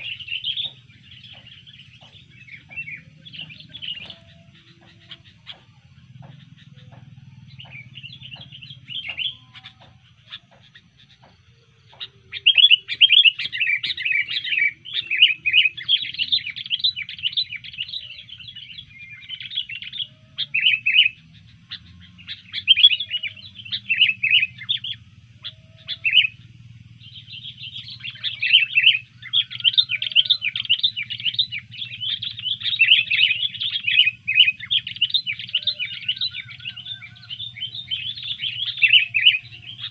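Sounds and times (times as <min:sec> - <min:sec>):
bird chattering song: 0:00.0 - 0:39.9
faint low hum: 0:00.0 - 0:39.9.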